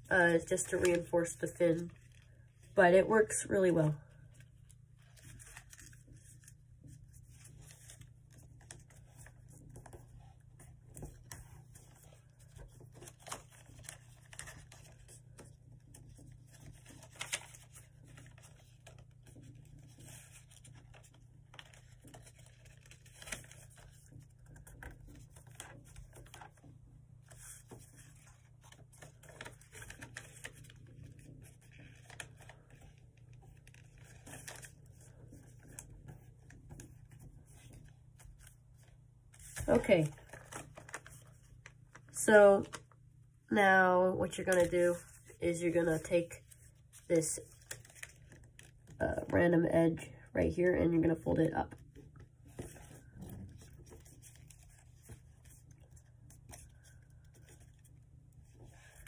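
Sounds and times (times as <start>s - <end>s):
paper crinkling and creasing: 0.0s - 43.1s, 44.3s - 49.4s, 51.0s - 59.0s.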